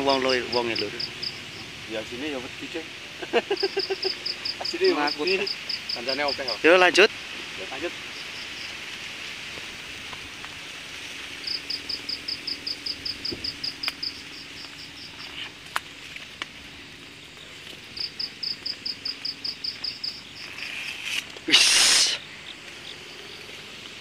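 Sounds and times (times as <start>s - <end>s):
rapid high insect chirps: 0.0s - 24.0s
steady high insect hiss: 0.0s - 24.0s.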